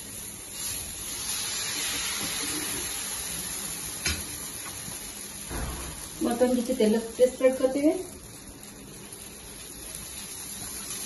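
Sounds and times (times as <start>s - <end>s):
batter sizzling on a hot pan: 0.0s - 11.0s.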